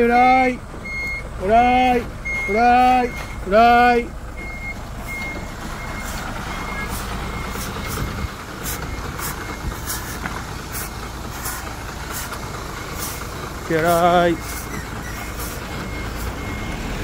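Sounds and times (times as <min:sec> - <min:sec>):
diesel engine running low: 0:00.0 - 0:17.0
reversing beeper: 0:00.1 - 0:10.2, 0:12.6 - 0:17.0.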